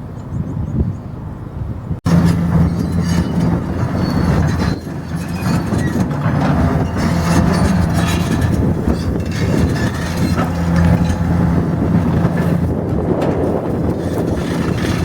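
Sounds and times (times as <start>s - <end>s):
diesel engine running: 2.1s - 15.0s
metallic clanking of crawler tracks: 2.1s - 15.0s.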